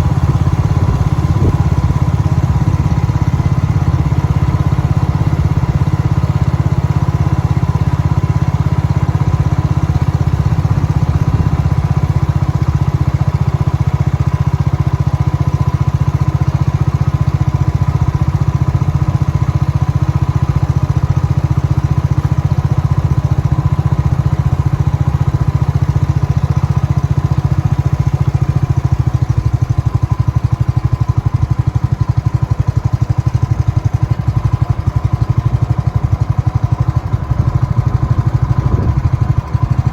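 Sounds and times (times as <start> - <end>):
vehicle engine drone: 0.0 - 14.0, 17.3 - 39.9.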